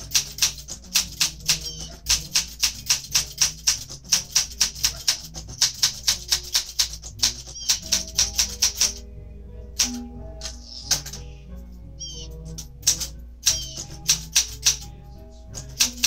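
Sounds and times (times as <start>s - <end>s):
manual typewriter typing: 0.0s - 9.0s, 9.8s - 11.2s, 12.5s - 14.9s, 15.6s - 16.0s.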